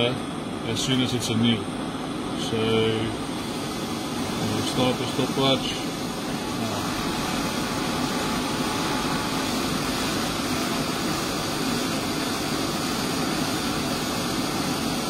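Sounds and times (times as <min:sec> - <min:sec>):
torch flame hissing: 0:01.7 - 0:15.0.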